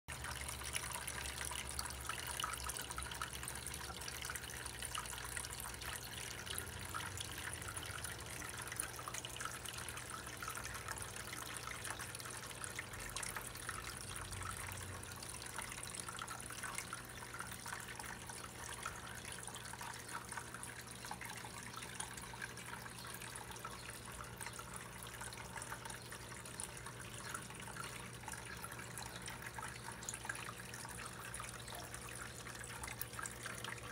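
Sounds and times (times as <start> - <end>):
small waterfall trickling: 0.1 - 33.9.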